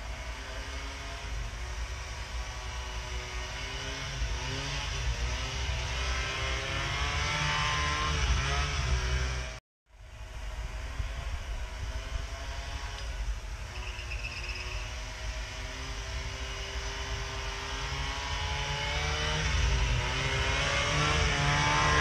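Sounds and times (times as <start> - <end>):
snowmobile engine approaching: 0.0 - 22.0.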